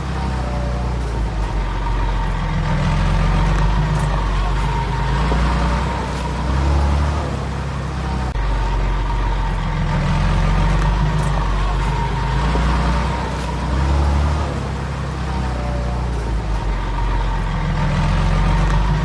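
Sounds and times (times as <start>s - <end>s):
diesel machinery engine running: 0.0s - 19.0s.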